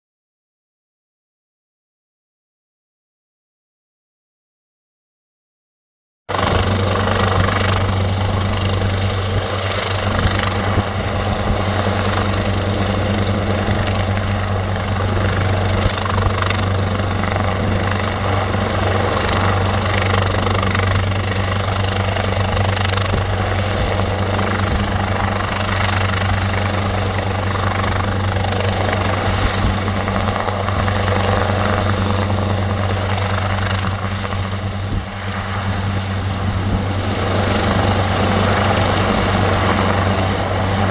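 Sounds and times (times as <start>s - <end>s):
helicopter rotor throb: 6.3s - 40.9s.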